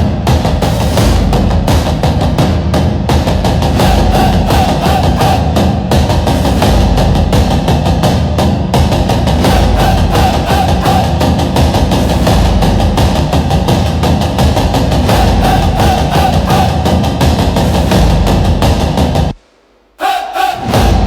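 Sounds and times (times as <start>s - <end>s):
deep drums: 0.0s - 19.5s, 20.6s - 21.0s.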